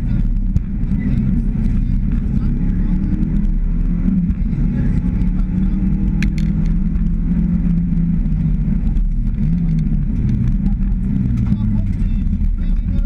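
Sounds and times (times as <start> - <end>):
gravel ticking against underbody: 0.0 - 13.0
rally car engine running hard: 0.0 - 13.0.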